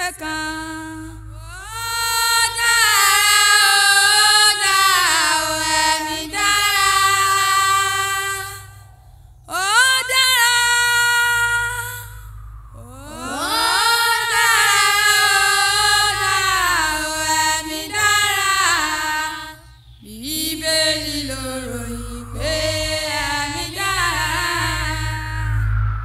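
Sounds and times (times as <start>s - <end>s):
woman singing gospel: 0.0s - 8.9s, 9.5s - 12.2s, 12.8s - 25.7s
steady low hum: 0.0s - 26.0s.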